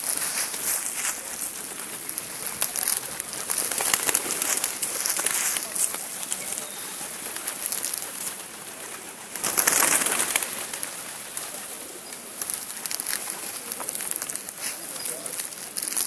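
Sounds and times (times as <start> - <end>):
pigeon wings flapping: 0.0 - 16.0
pigeons cooing: 0.0 - 16.0.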